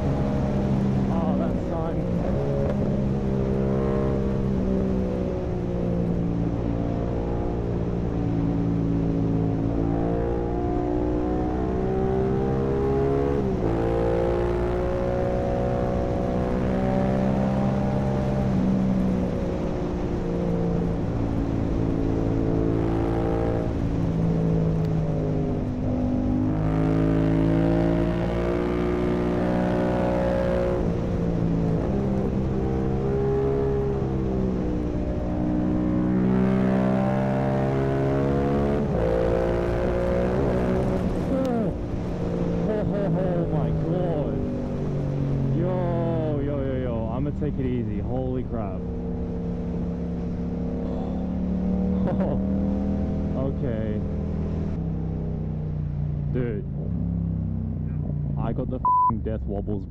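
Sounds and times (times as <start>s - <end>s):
motorcycle engine accelerating: 0.0s - 59.8s.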